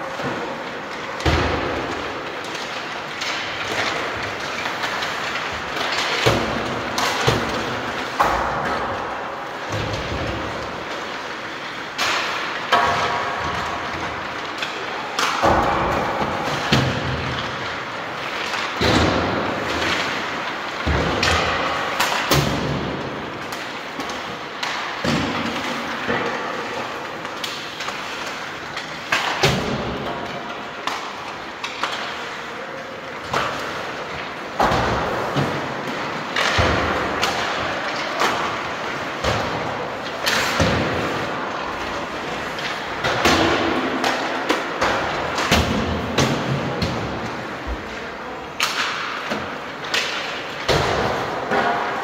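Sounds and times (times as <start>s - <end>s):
steady background noise: 0.0s - 52.0s.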